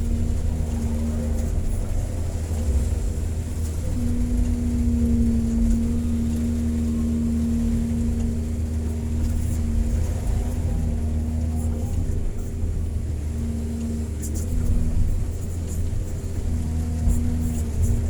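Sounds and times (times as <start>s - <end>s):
excavator diesel engine running: 0.0s - 18.0s
steady engine whine: 0.0s - 18.0s.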